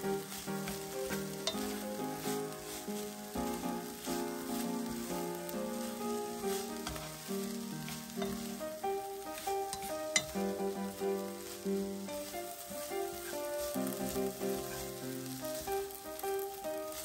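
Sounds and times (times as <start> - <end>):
background music with sustained notes: 0.0 - 17.0
food sizzling in a frying pan: 0.0 - 17.0
chopsticks clicking on a pan: 0.2 - 17.0.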